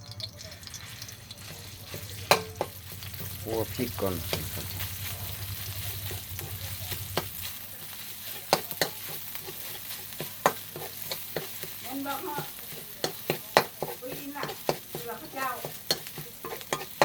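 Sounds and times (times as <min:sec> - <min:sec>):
paste sizzling in a wok: 0:00.0 - 0:17.0
spatula scraping and knocking pan: 0:00.2 - 0:17.0.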